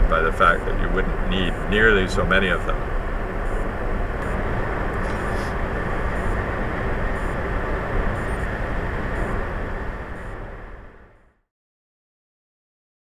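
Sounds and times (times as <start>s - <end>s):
road and tyre noise inside car: 0.0s - 11.4s.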